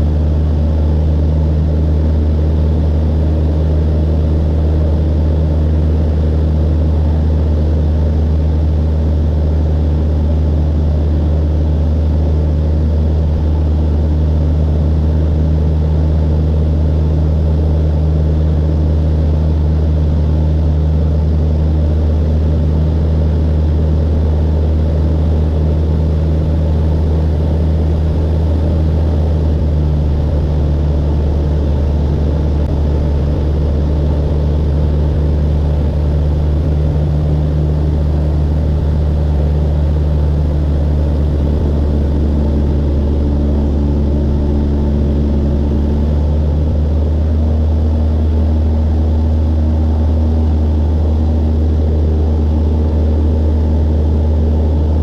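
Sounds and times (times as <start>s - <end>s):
airplane engine hum in cabin: 0.0s - 55.0s.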